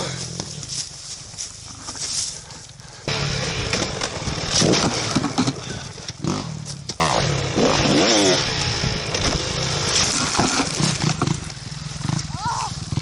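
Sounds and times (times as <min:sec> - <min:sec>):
dirt bike engines revving: 0:01.8 - 0:13.0.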